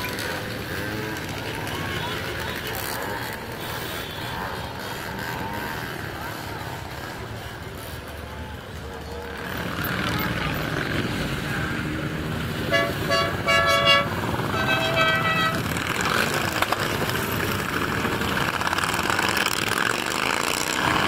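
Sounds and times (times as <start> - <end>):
motorcycle engines passing: 0.0 - 21.0.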